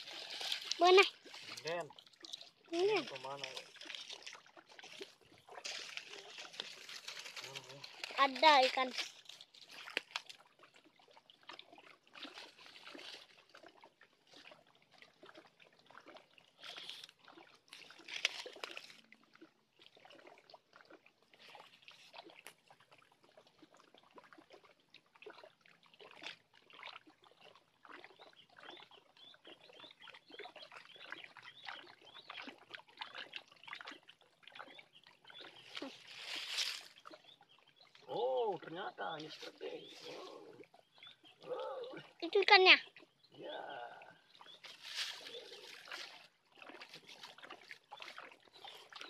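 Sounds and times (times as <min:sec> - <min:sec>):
small water splashes: 0:00.0 - 0:49.0
water lapping against rocks: 0:00.0 - 0:49.0.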